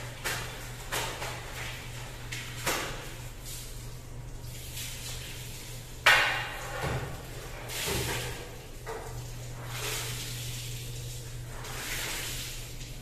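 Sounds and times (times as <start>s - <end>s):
water splashing onto tiled floor: 0.0s - 13.0s.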